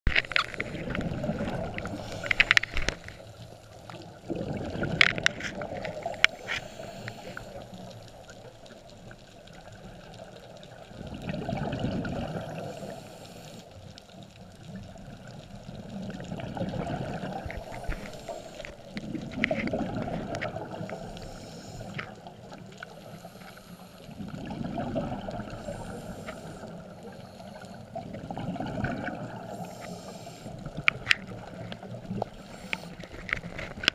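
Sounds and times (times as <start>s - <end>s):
regulator bubbles gurgling: 0.1s - 23.4s, 24.0s - 33.9s.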